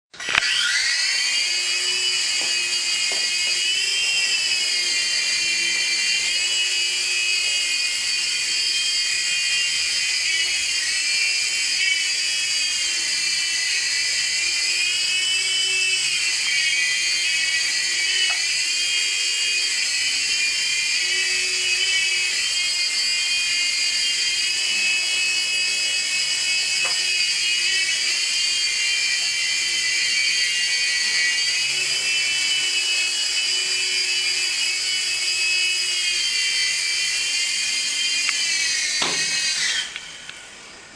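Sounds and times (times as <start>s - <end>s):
toy helicopter motor whine: 0.1s - 40.9s.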